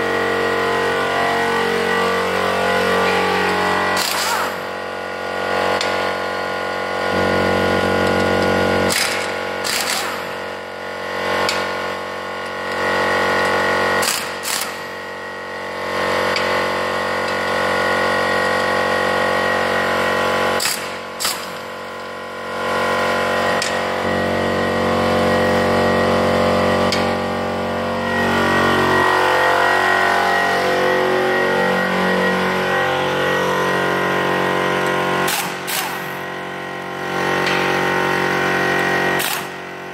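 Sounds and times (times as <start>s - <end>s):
impact wrench whirring and hammering: 0.0s - 39.9s.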